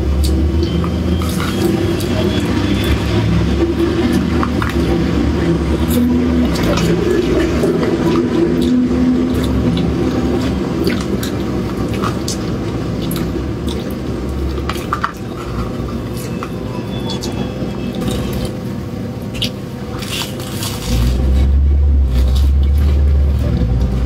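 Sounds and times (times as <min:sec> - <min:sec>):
steady low hum: 0:00.0 - 0:24.0
wet squishy eating sounds: 0:00.0 - 0:24.0.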